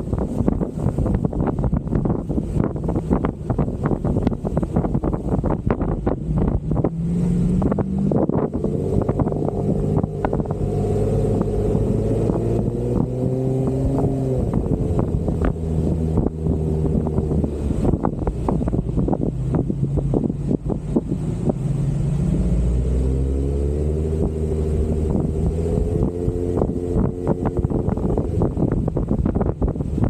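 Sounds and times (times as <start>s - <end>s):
off-road vehicle engine under load: 0.0s - 30.0s.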